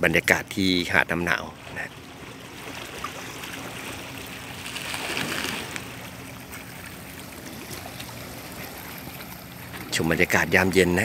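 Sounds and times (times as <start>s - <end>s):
small waves lapping on rocks: 1.3s - 10.4s.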